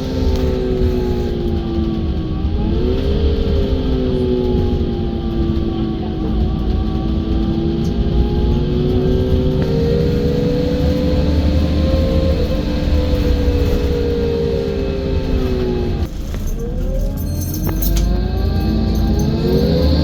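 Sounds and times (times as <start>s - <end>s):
bus engine rumble: 0.0s - 20.0s
engine and drivetrain whine: 0.0s - 20.0s.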